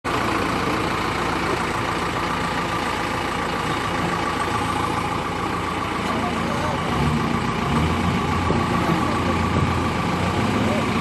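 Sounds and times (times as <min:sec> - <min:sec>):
heavy diesel engine running: 0:00.1 - 0:11.0.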